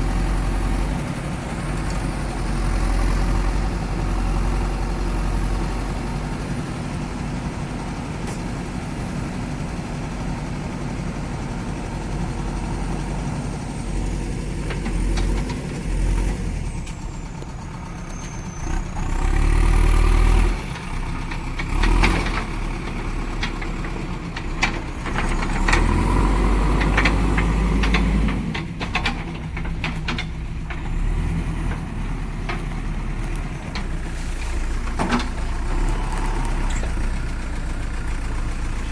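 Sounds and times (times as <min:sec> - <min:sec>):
diesel engine working under load: 0:00.0 - 0:38.9.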